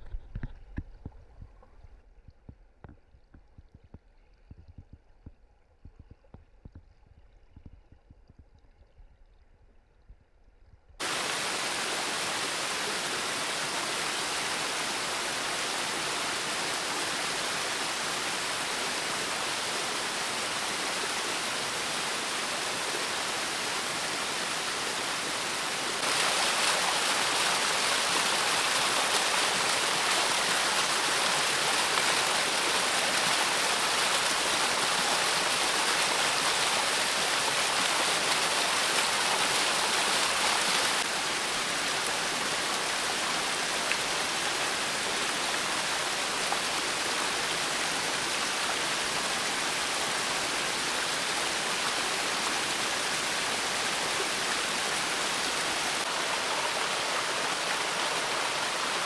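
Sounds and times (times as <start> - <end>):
stream water splashing over rocks: 11.0 - 59.0.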